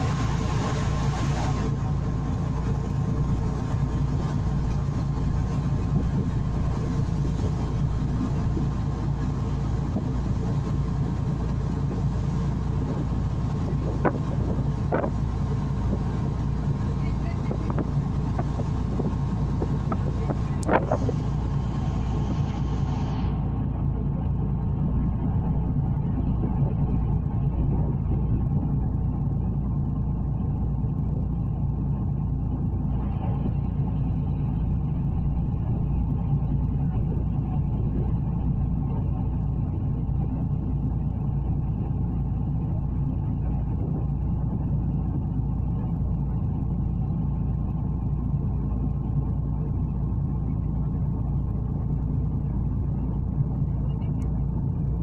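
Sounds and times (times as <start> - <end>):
ferry engines rumbling: 0.0 - 55.0.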